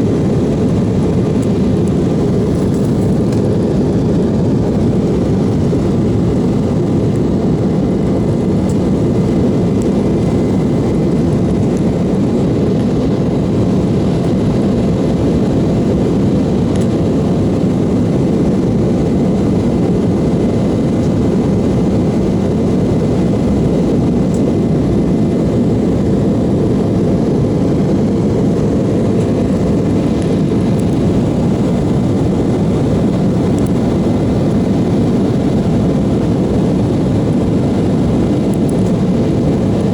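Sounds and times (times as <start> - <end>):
airliner engines and airflow rushing: 0.0 - 39.9.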